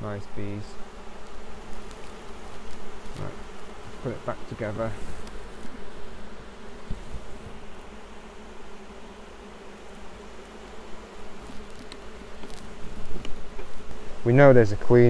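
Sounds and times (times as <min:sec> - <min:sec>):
honeybee colony buzzing: 0:00.0 - 0:15.0.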